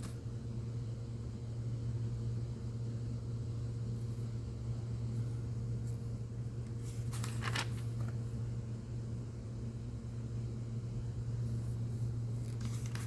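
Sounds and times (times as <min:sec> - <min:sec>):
low fan hum: 0:00.0 - 0:13.0.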